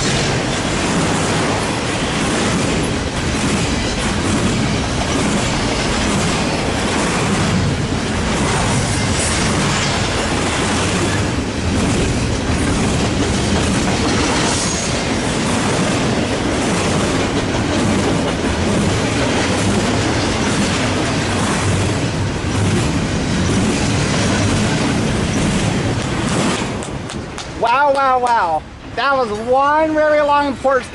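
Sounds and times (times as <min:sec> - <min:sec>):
steel wheels rumbling on rails: 0:00.0 - 0:30.9.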